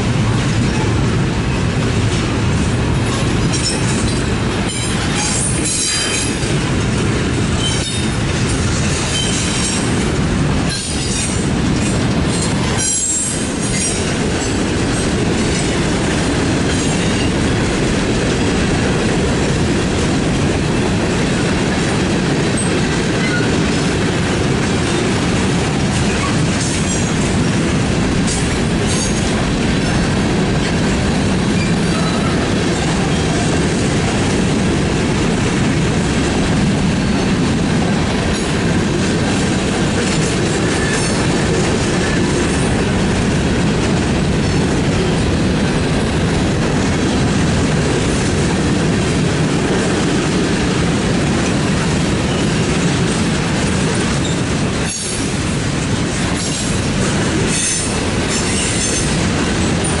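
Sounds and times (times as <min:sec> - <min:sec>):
steel wheels rumbling on rail: 0:00.0 - 1:00.0.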